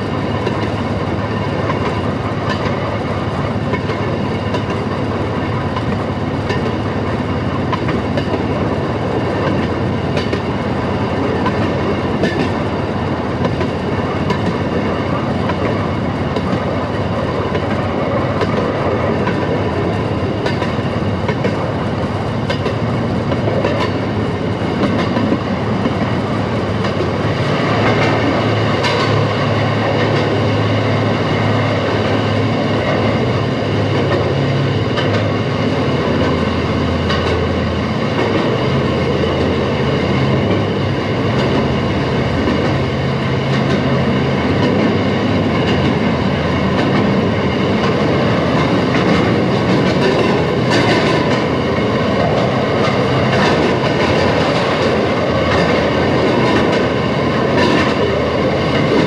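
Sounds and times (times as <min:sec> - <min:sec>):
wheel-on-rail noise: 0:00.0 - 0:59.0.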